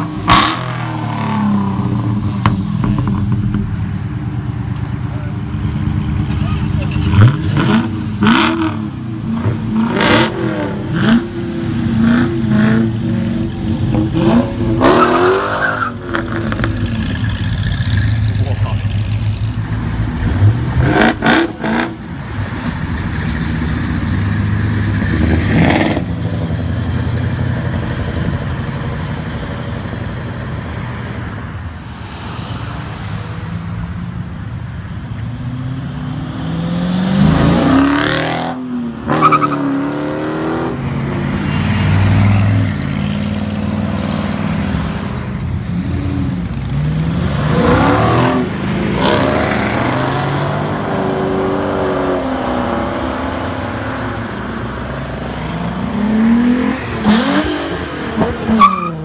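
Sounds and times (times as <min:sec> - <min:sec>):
car engines rumbling: 0:00.0 - 0:59.0.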